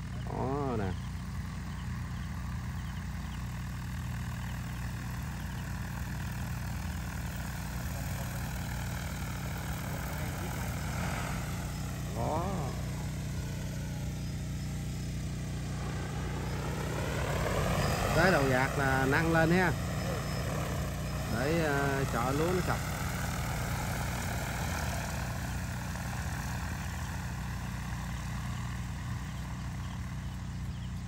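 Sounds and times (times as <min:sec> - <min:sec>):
drone rotors droning: 0:00.0 - 0:31.0.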